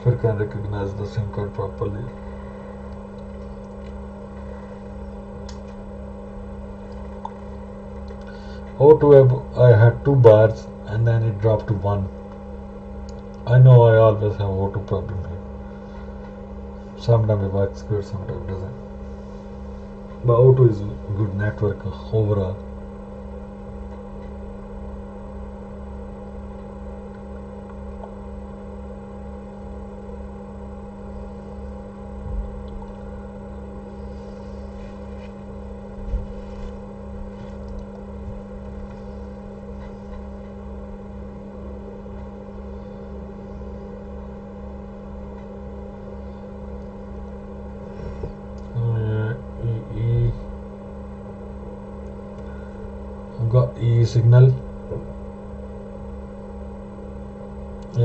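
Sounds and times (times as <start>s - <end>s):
electrical hum: 0.0s - 58.0s
low pulsing throb: 0.0s - 58.0s.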